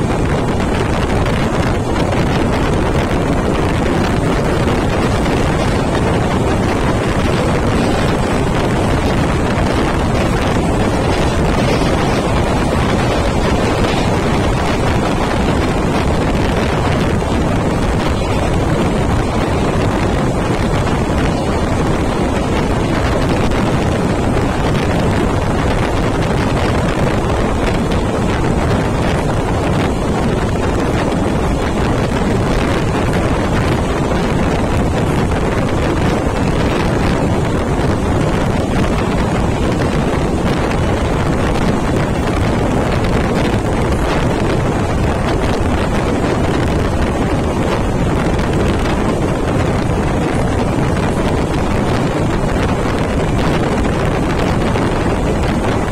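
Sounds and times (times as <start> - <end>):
train rumbling on rails: 0.0 - 55.9
wind buffeting microphone: 0.0 - 55.9.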